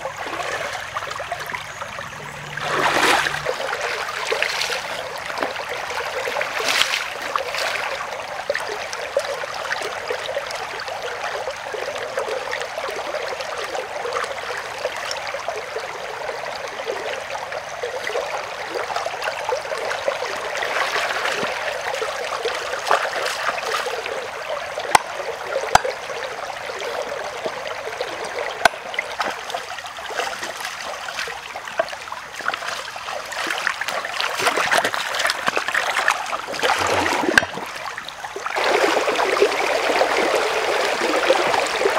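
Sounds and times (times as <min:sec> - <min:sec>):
stream water running and splashing: 0:00.0 - 0:41.9.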